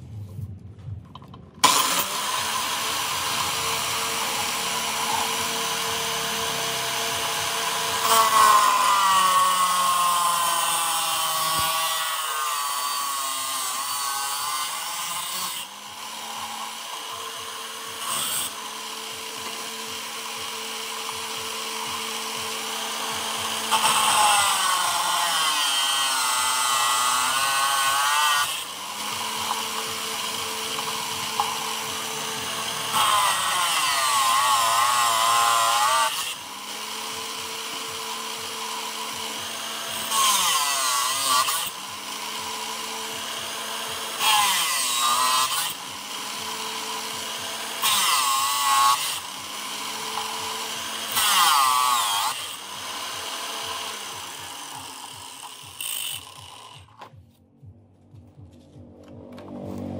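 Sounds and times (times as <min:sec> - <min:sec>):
grinder cutting steel: 0:01.2 - 0:57.2
angle grinder motor whine: 0:01.6 - 0:57.2.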